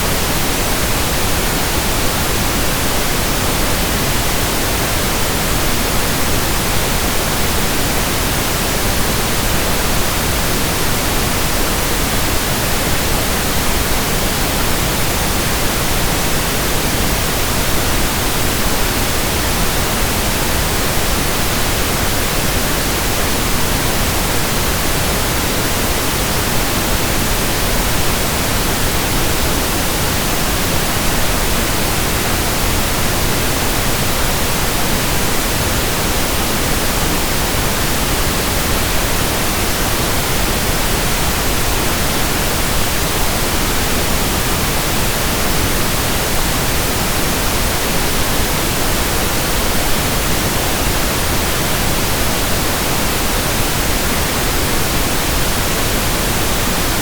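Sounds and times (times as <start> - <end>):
steady pink noise: 0.0 - 57.0.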